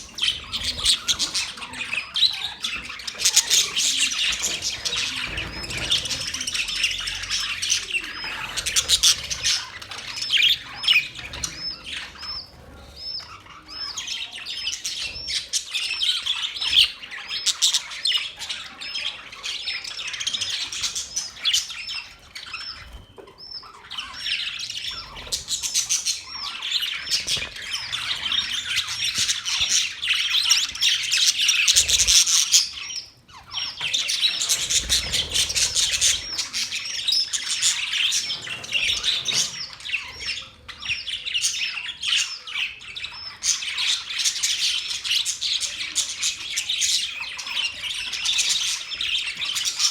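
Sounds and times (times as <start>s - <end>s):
budgerigars chattering: 0.0s - 49.9s.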